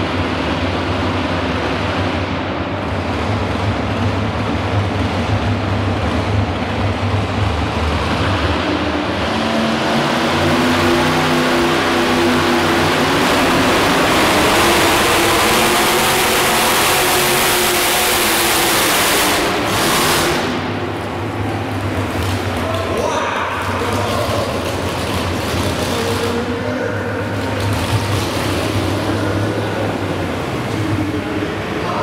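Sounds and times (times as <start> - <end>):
tractor engines rumbling and revving: 0.0 - 32.0.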